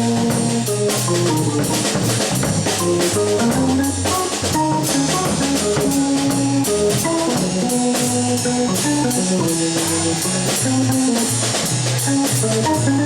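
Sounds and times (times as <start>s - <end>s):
drum kit cymbal strokes: 0.0s - 12.9s
bass line: 0.0s - 13.0s
held melodic notes: 0.0s - 13.0s.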